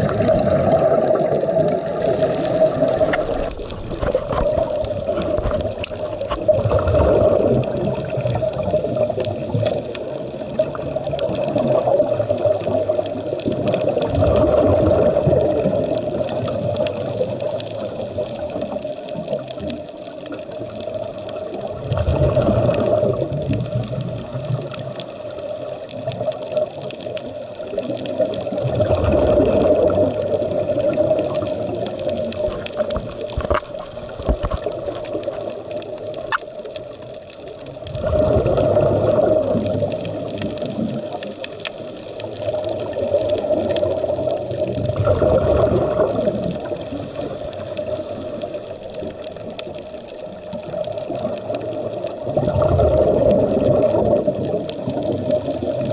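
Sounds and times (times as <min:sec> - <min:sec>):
bubbles gurgling: 0:00.0 - 0:55.9.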